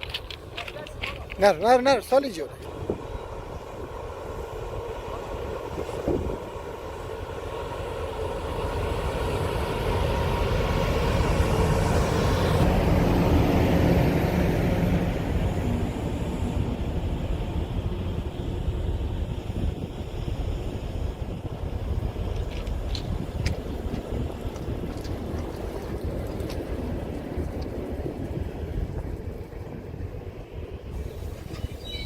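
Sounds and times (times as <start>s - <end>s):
moving vehicle rumble: 0.0s - 6.6s, 9.3s - 32.0s
wind noise: 0.0s - 32.0s.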